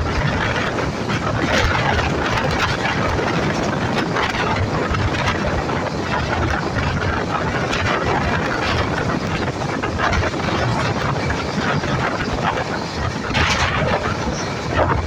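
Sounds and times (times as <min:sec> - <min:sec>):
train wheel clatter: 0:00.0 - 0:15.0
train wheels on rail: 0:00.0 - 0:15.0
wind on microphone: 0:00.0 - 0:15.0.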